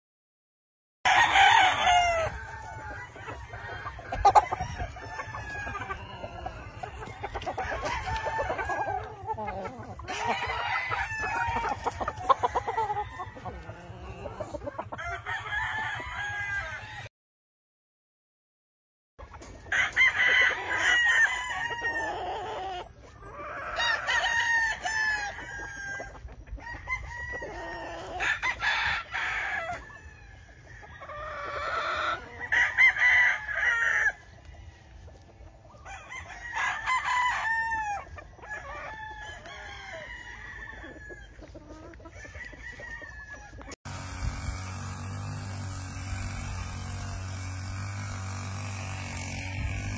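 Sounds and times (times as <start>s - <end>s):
roosters crowing: 1.0s - 17.1s, 19.4s - 49.9s
chickens clucking: 1.1s - 16.8s, 19.2s - 49.9s.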